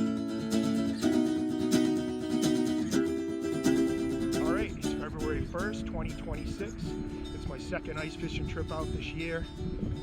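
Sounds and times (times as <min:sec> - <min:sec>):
plucked acoustic strings chords: 0:00.0 - 0:10.0.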